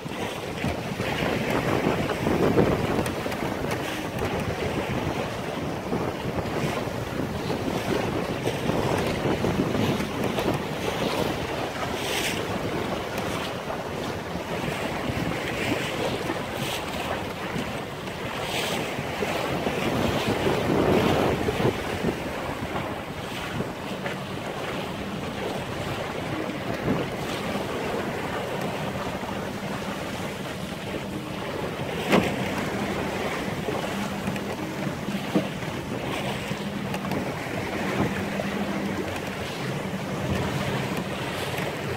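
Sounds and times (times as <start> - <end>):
water slapping against hull: 0.0 - 41.9
wind buffeting microphone: 0.0 - 41.9.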